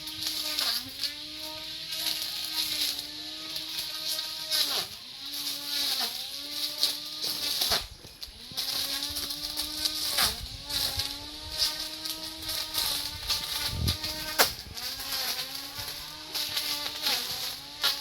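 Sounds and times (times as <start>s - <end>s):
lawn mower motor whining: 0.0s - 18.0s.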